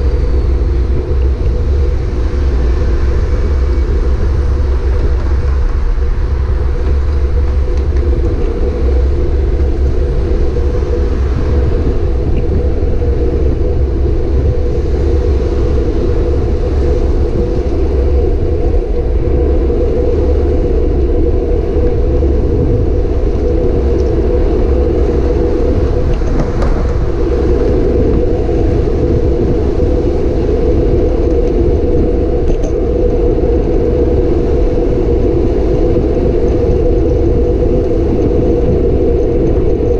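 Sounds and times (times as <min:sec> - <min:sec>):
road noise: 0:00.0 - 0:39.9
wind rumble: 0:00.0 - 0:39.9.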